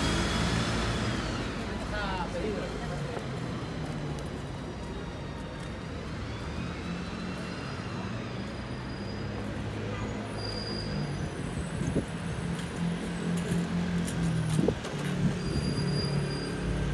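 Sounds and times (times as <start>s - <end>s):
vehicle engines humming: 0.0s - 16.9s.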